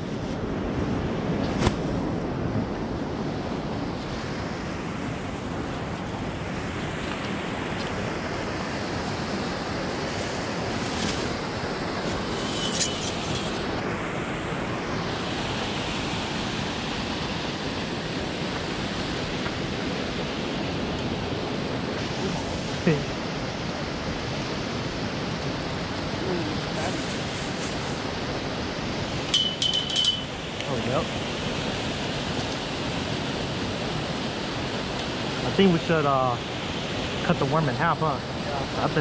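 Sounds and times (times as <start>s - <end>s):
water rushing over spillway: 1.1s - 29.4s, 30.3s - 39.0s.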